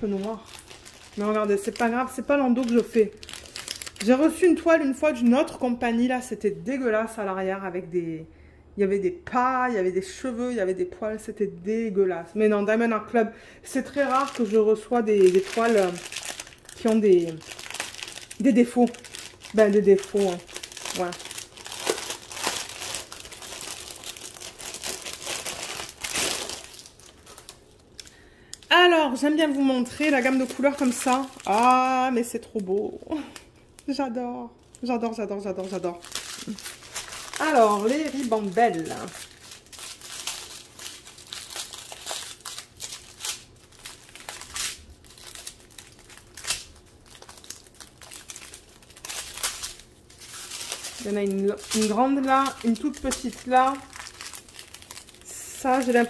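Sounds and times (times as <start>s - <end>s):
plastic packaging crinkling: 0.0s - 5.3s, 13.7s - 34.0s, 34.6s - 56.0s.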